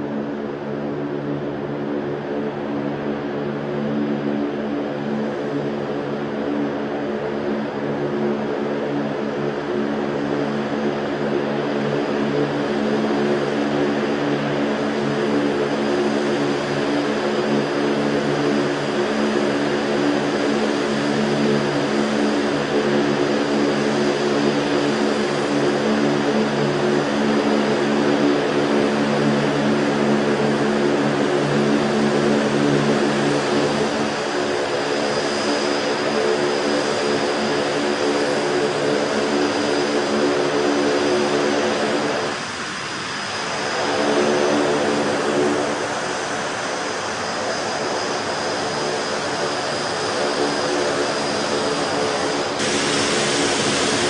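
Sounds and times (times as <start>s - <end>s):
aircraft engines and rotors droning: 0.0s - 54.0s.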